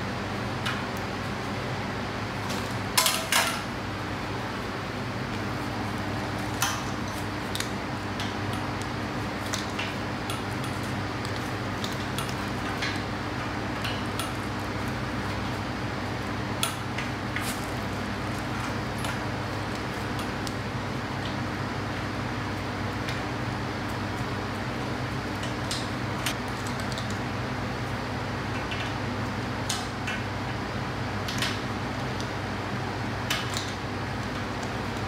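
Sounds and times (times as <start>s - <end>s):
low fan hum: 0.0s - 35.0s.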